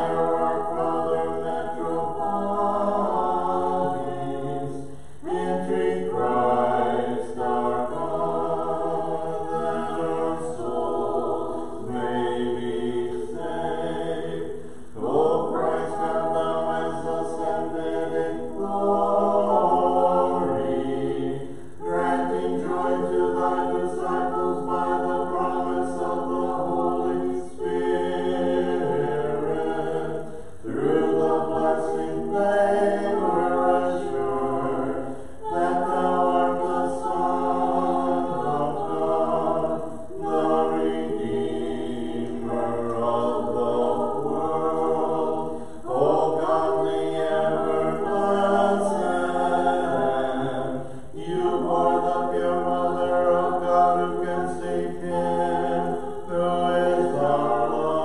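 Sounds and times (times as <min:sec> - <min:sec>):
choir singing a hymn a cappella: 0:00.0 - 0:58.0.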